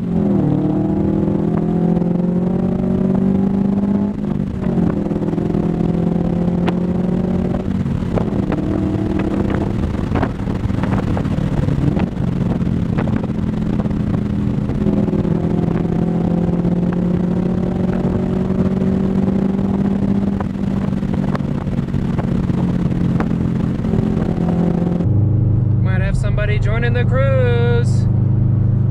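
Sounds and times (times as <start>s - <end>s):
car exhaust note: 0.0s - 28.9s.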